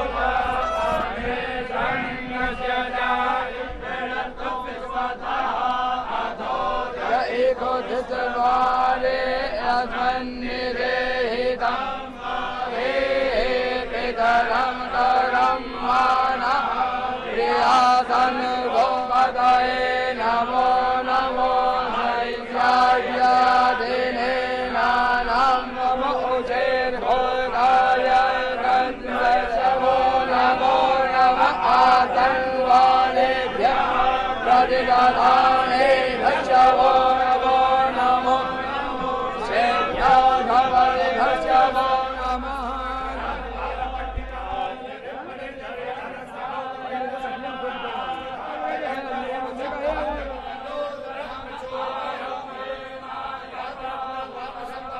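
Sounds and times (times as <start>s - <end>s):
men chanting in drone: 0.0s - 54.9s.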